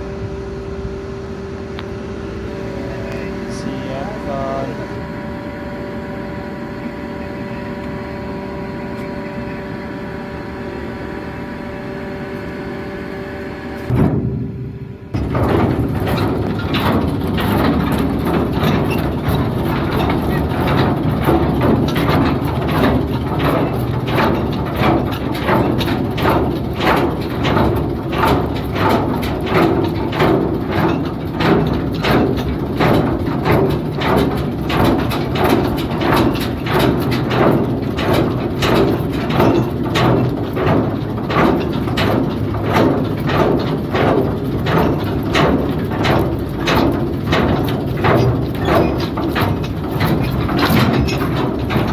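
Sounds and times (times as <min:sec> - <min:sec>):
ship machinery hum: 0:00.0 - 0:51.9.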